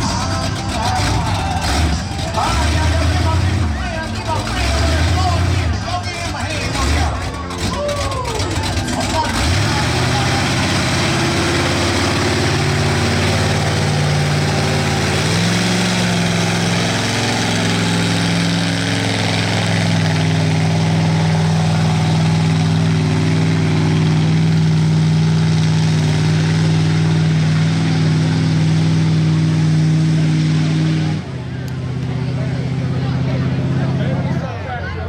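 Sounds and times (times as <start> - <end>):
truck engine running hard: 0.0 - 35.0.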